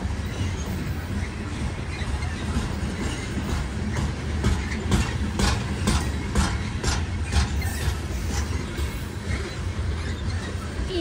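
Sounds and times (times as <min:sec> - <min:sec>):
train rumbling past: 0:00.0 - 0:11.0
wheels clicking over rail joints: 0:00.0 - 0:11.0.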